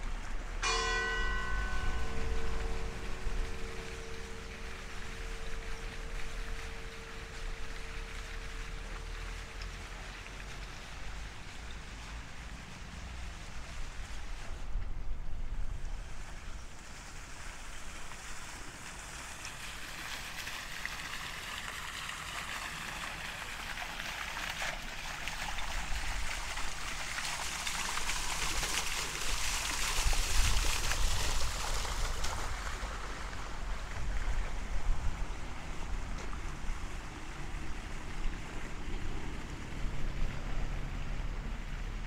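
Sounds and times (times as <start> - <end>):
fountain water splashing: 0.0 - 42.0.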